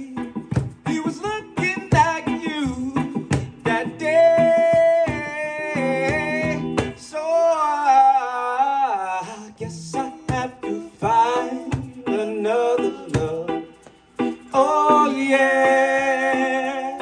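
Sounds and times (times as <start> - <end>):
strummed guitar chords: 0.0 - 7.2, 9.6 - 17.0
person singing long notes: 1.0 - 13.6, 14.5 - 17.0.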